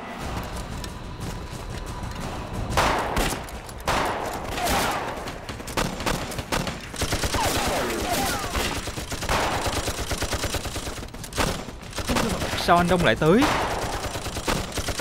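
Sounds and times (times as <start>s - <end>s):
rapid rifle fire: 0.2s - 15.0s.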